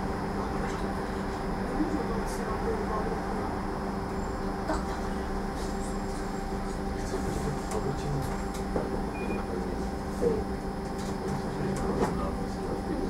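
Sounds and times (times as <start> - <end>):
electric drive hum: 0.0 - 13.0
road and rolling noise: 0.0 - 13.0.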